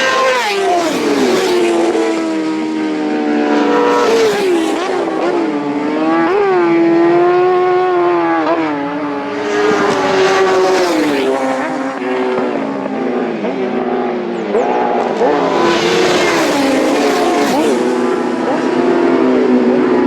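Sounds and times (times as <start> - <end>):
racing motorcycle engines revving: 0.0 - 20.0.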